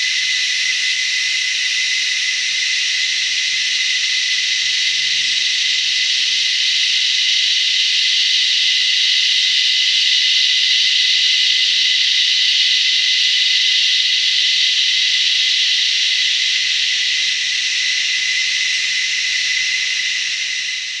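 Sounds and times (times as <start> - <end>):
cicadas buzzing: 0.0 - 21.0.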